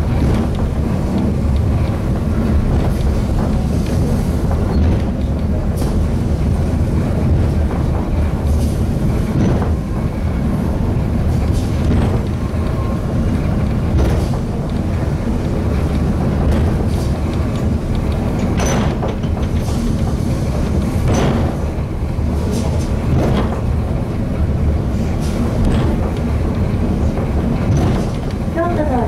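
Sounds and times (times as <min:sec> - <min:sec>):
clicks and knocks of rails: 0:00.0 - 0:06.1, 0:07.3 - 0:10.1, 0:11.4 - 0:29.0
funicular car rumbling on rails: 0:00.0 - 0:29.0.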